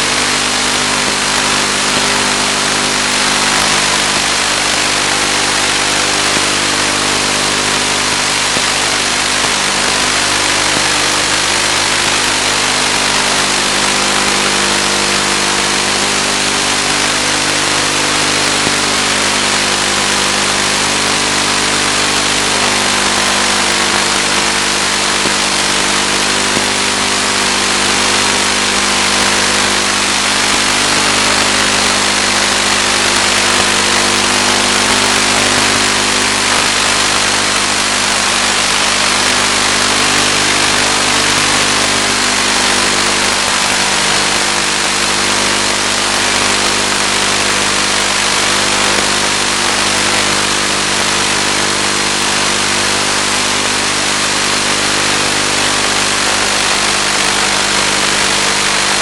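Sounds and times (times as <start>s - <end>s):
model plane motor drone: 0.0s - 59.0s
transmitter hiss: 0.0s - 59.0s.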